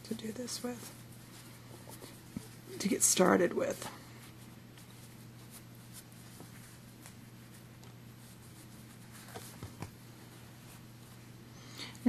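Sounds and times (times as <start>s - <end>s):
steady low hum: 0.0s - 12.0s
fabric rustling and scratching: 0.1s - 11.4s.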